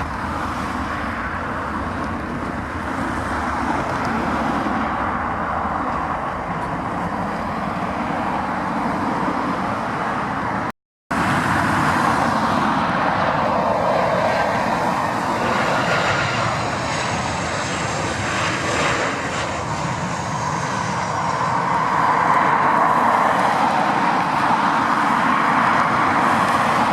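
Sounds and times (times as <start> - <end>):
jet airliner taking off: 0.0 - 26.9
jet engines whining: 0.0 - 26.9.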